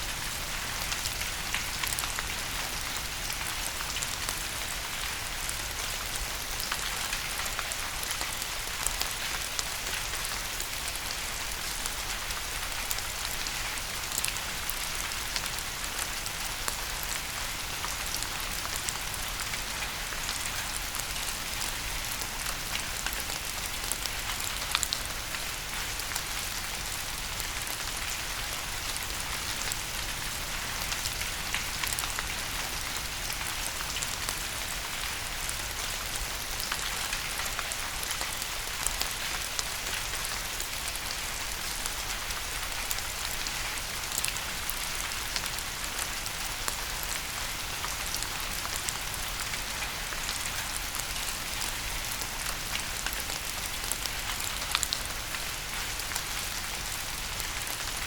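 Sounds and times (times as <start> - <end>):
rain pattering on a surface: 0.0 - 58.0.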